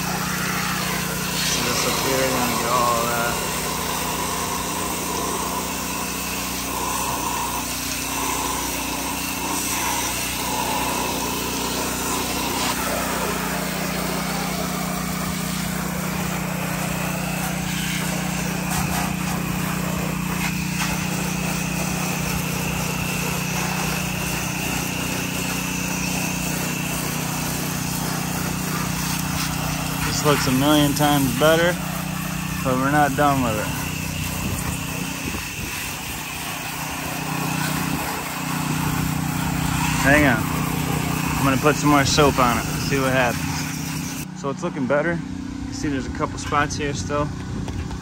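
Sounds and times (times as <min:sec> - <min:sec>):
water spray hiss: 0:00.0 - 0:44.3
small gas engine running: 0:00.0 - 0:48.0.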